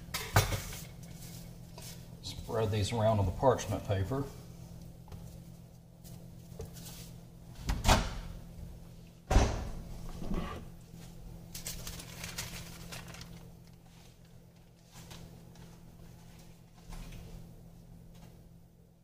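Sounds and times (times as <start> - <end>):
low appliance hum: 0.0 - 19.0.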